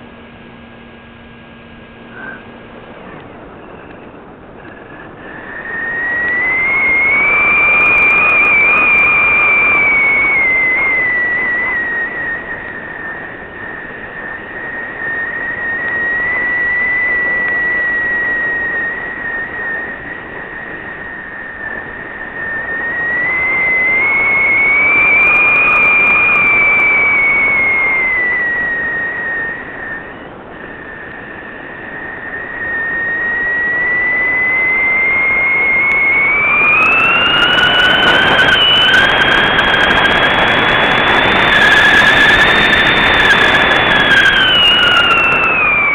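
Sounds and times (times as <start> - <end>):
loud whistling tone: 0.0 - 45.9
rushing air: 0.0 - 45.9.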